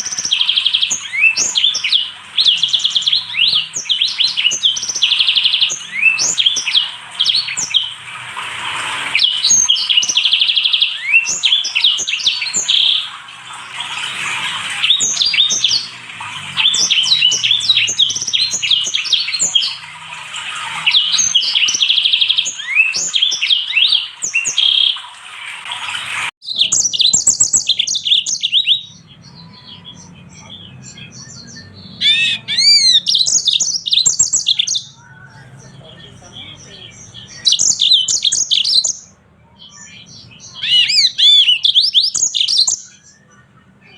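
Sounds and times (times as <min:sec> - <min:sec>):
finches singing: 0:00.0 - 0:25.1, 0:25.8 - 0:43.9.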